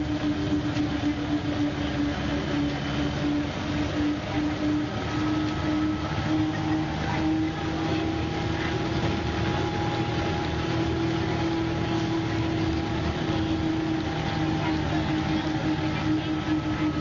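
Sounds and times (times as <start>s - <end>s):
bus engine running: 0.0s - 17.0s
constant whine: 0.0s - 17.0s.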